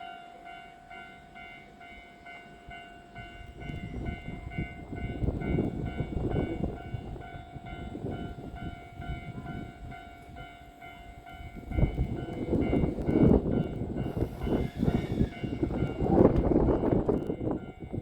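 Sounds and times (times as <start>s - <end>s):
train wheels clattering: 3.2s - 18.0s.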